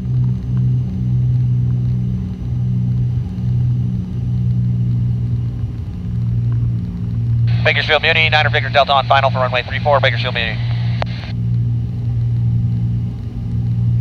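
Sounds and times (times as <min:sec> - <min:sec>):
twin propeller engines droning: 0:00.0 - 0:14.0.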